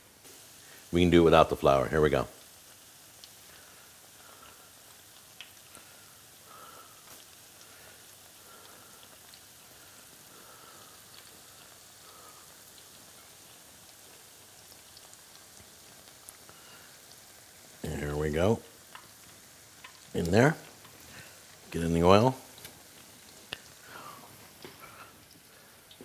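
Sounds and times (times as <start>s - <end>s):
batter frying in oil: 0.0s - 26.0s.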